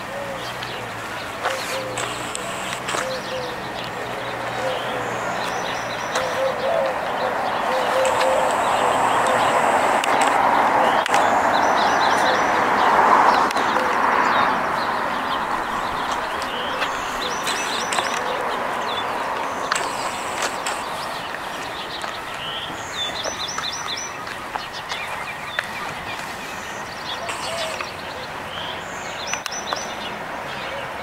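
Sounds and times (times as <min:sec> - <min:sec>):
rushing background noise: 0:00.0 - 0:31.0
small birds chirping: 0:00.0 - 0:31.0.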